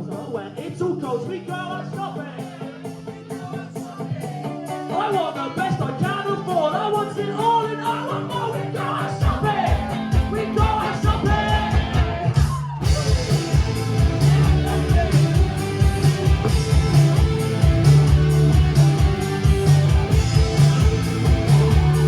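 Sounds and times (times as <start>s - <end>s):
bass guitar: 0.0s - 22.0s
drums: 0.0s - 22.0s
electric guitar: 0.0s - 22.0s.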